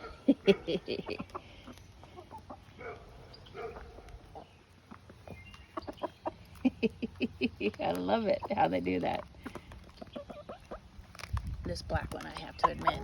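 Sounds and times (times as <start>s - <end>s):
chickens clucking softly: 0.0s - 11.0s.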